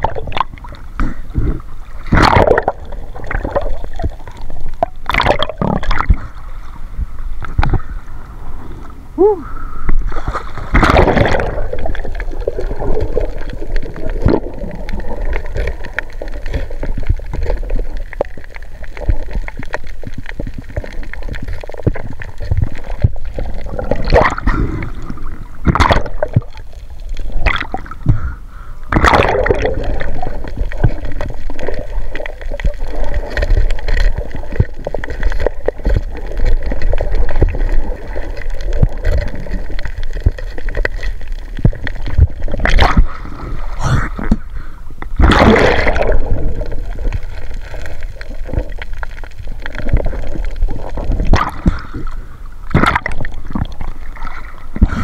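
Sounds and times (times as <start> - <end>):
seawater sloshing and gurgling: 0.0 - 55.0
water splashes: 0.0 - 55.0.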